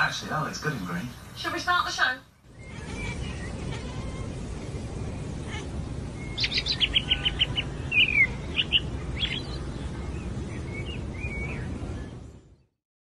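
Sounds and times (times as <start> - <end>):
steady background hum: 0.0 - 12.6
small birds chirping: 0.0 - 12.7.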